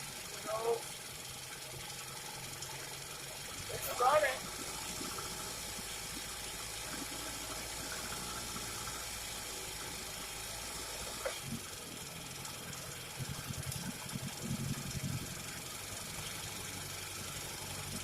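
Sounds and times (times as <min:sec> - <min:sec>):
outboard motor running roughly: 0:00.0 - 0:18.0.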